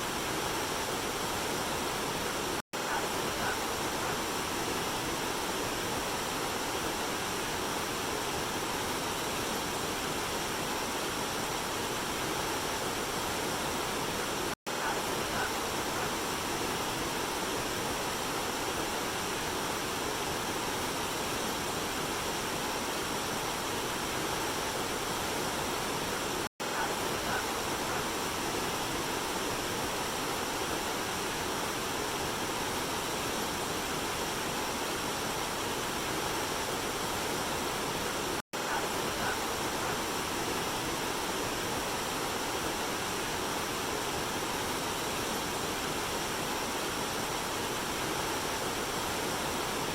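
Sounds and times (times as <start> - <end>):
waterfall and river rushing: 0.0 - 49.9.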